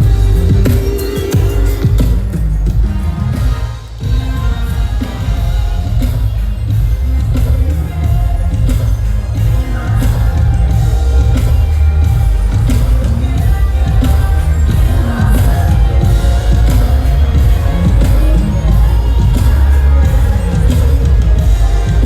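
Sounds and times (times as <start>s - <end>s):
live band playing rnb: 0.0s - 22.0s
person singing: 0.0s - 22.0s.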